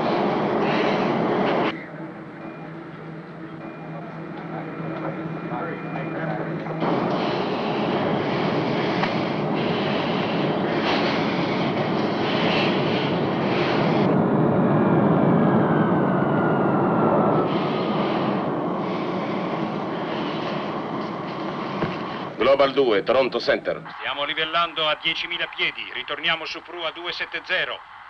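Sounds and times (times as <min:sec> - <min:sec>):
rushing roar of air: 0:00.0 - 0:28.0.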